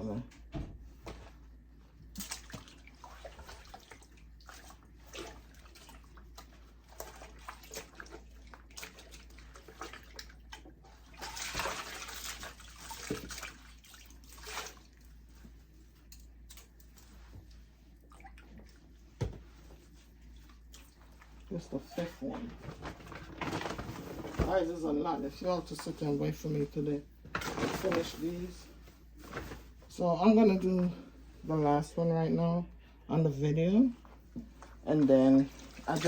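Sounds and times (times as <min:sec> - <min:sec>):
water sloshing in a basin: 0:01.9 - 0:30.0, 0:33.9 - 0:36.0.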